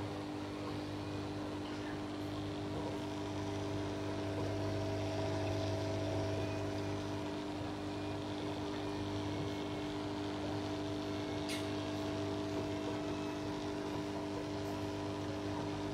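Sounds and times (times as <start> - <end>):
aquarium pump humming: 0.0 - 15.9.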